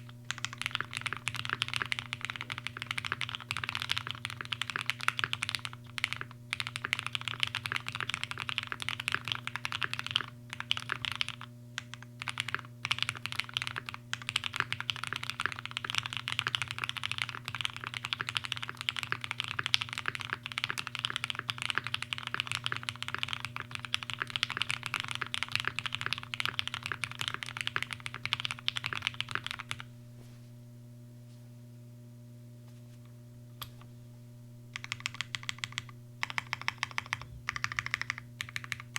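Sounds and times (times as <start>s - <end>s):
mechanical keyboard typing: 0.0s - 29.8s, 34.8s - 38.9s
steady low hum: 0.0s - 38.9s.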